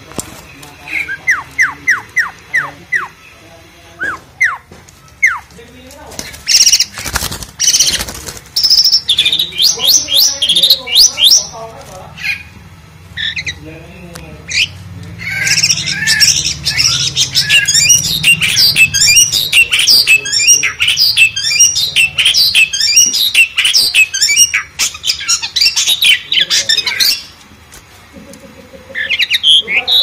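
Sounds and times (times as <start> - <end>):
starling singing chattering notes: 0.0 - 30.0.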